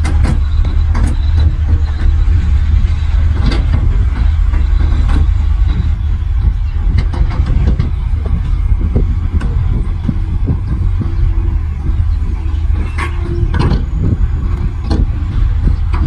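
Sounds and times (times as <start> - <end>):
diesel engine rumbling: 0.0 - 16.0
metal clanks and knocks: 0.0 - 16.0.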